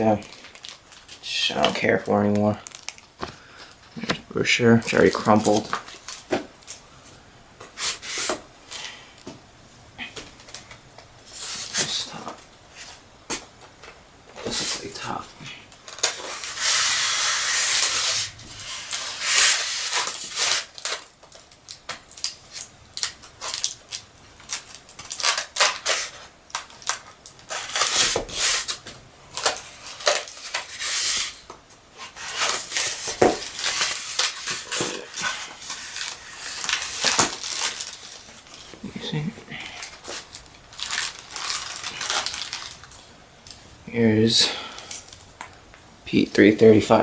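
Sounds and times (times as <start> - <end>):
packaging rustling and crinkling: 0.0 - 9.3, 10.2 - 43.7.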